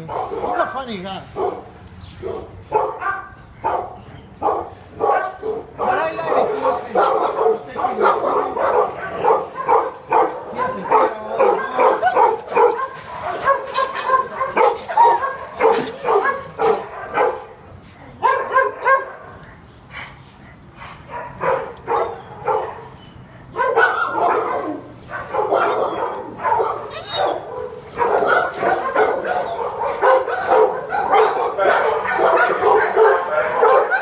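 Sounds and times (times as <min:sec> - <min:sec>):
dog barking: 0:00.0 - 0:00.8, 0:01.4 - 0:17.6, 0:18.2 - 0:19.4, 0:20.8 - 0:34.0.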